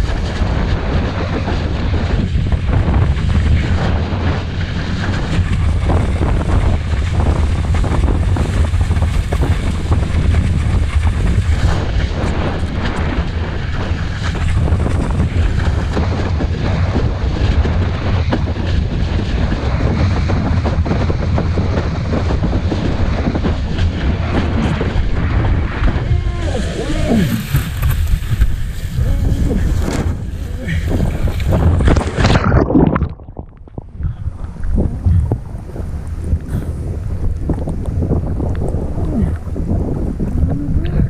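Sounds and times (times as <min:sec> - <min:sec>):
water rushing and slapping: 0:00.0 - 0:41.0
wind buffeting microphone: 0:00.0 - 0:41.0.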